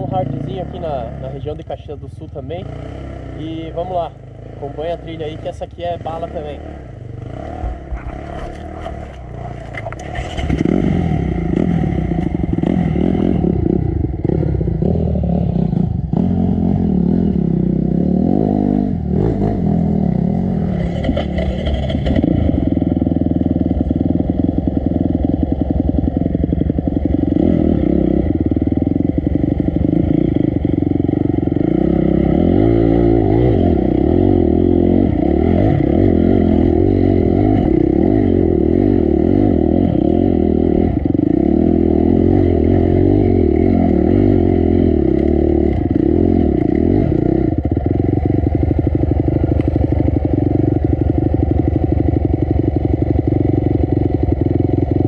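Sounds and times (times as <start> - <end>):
dirt bike engine revving: 2.6 - 54.8.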